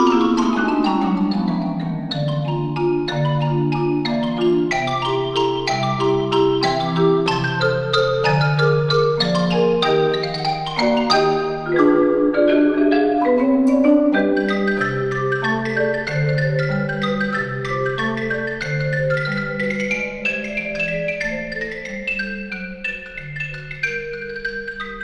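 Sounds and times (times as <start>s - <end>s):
marimbas holding low notes: 0.0s - 25.0s
ragtime xylophone solo: 0.0s - 25.0s.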